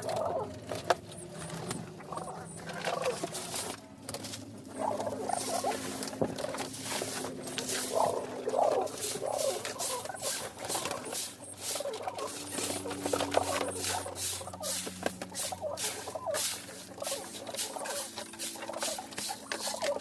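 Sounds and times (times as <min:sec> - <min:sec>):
birds chirping and squeaking: 0:00.0 - 0:20.0
faint steady hum: 0:00.0 - 0:20.0
short scratchy pattering strokes: 0:02.1 - 0:20.0.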